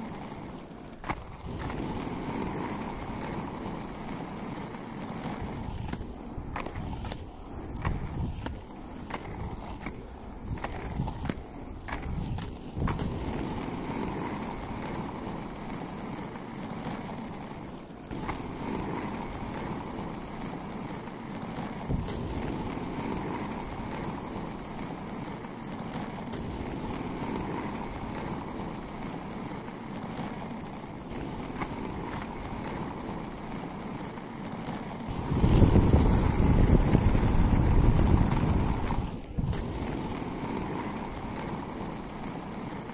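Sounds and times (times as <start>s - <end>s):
skate wheels rolling on asphalt: 0.0s - 42.9s.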